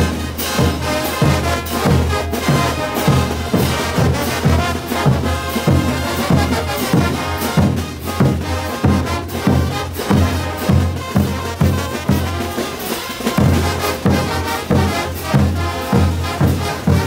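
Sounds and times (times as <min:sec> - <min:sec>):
trumpets and trombones: 0:00.0 - 0:17.0.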